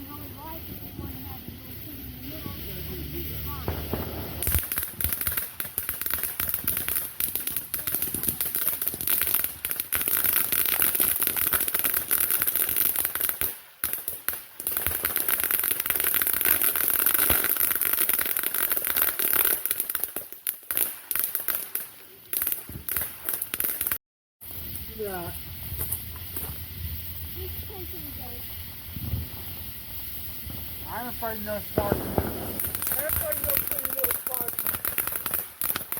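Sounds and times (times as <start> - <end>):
hiss: 0.0 - 20.3, 24.4 - 35.9
fireworks crackling: 0.0 - 35.9.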